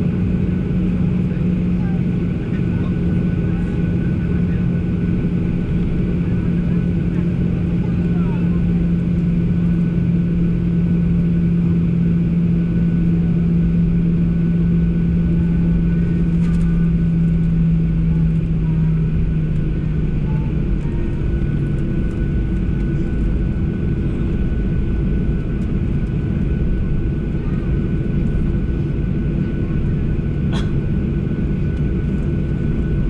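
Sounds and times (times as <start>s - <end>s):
jet engine rumble in cabin: 0.0s - 33.0s
low hum: 0.0s - 33.0s.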